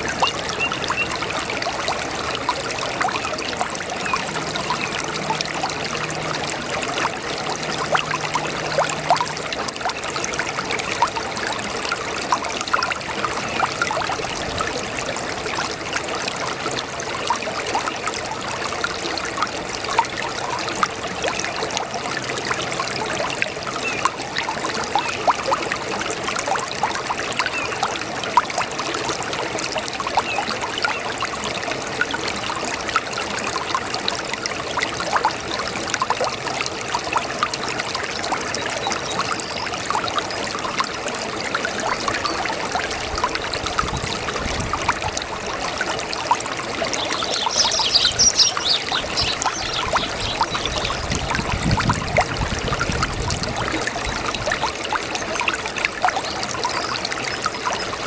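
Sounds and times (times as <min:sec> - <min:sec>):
brook trickling water: 0:00.0 - 0:58.0
water splashes and gurgles: 0:00.0 - 0:58.0.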